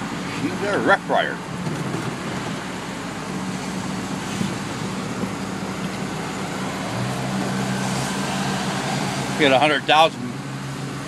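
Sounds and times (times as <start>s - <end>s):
truck engine droning: 0.0s - 11.0s
tyre and road noise: 0.0s - 11.0s.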